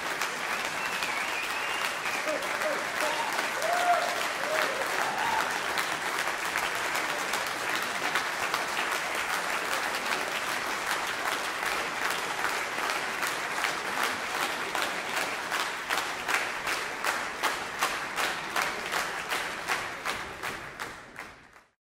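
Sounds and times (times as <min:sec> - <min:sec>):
audience applauding: 0:00.0 - 0:21.8
rhythmic clapping in unison: 0:00.0 - 0:21.8.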